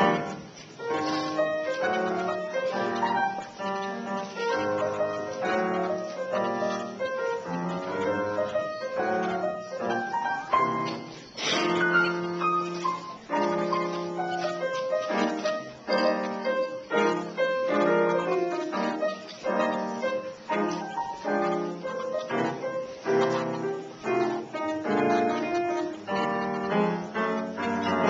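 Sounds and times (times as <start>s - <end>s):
solo grand piano: 0.0s - 28.0s.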